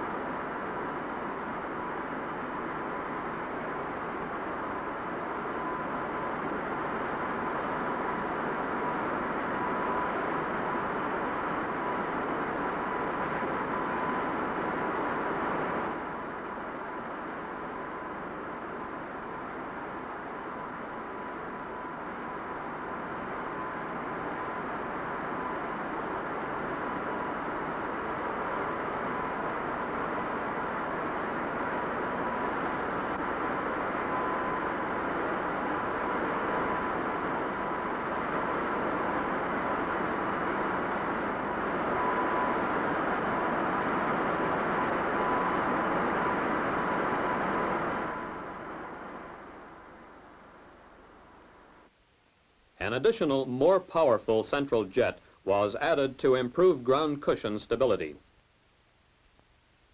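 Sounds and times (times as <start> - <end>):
jet engine rush with high whine: 0.0 - 57.8.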